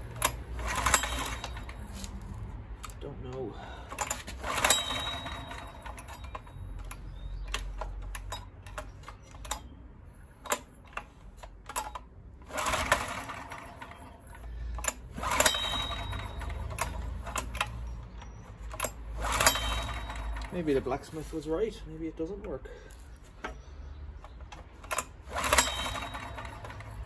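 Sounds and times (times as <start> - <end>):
engine turning over: 0.0 - 3.0, 3.7 - 9.7, 10.4 - 20.9, 24.2 - 27.0
recoil starter rope pulls: 0.0 - 9.7, 10.4 - 21.5, 24.2 - 27.0
starter clicks: 0.0 - 20.6, 24.2 - 27.0.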